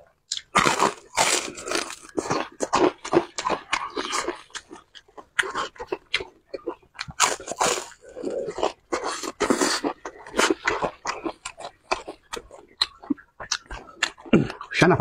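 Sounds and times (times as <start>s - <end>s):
wet chewing and lip-smacking: 0.3s - 14.8s.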